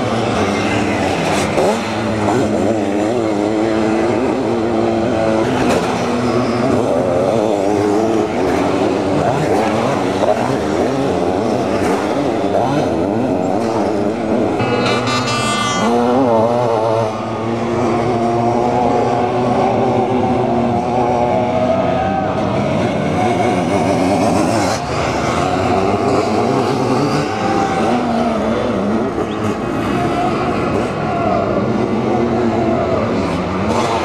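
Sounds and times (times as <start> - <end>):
engine revving hard close by: 0.0 - 21.8, 22.4 - 34.0
motorcycle engines racing: 0.0 - 34.0.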